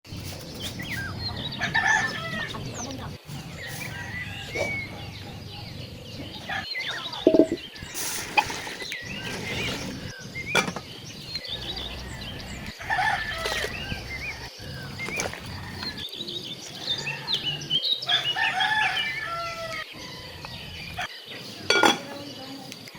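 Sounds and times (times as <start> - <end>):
birds chirping: 0.1 - 22.9.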